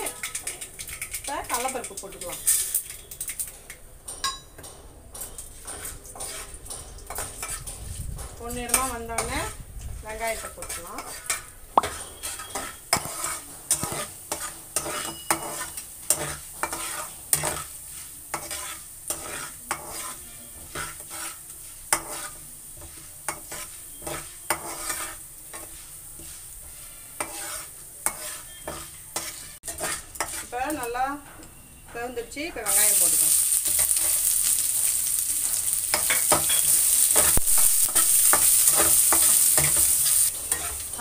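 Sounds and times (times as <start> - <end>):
oil sizzling: 0.0 - 4.4, 5.3 - 31.1, 32.0 - 41.0
metal spatula scraping a pan: 0.0 - 41.0.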